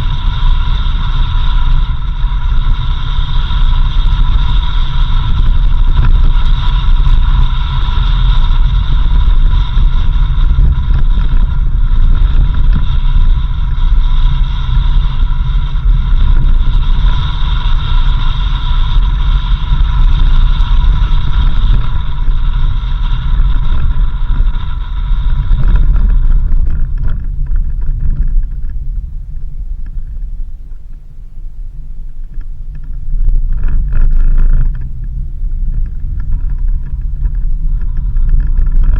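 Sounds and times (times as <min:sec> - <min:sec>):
high-pitched hum: 0:00.0 - 0:38.9
vehicle engine and tyres rumbling: 0:00.0 - 0:38.9.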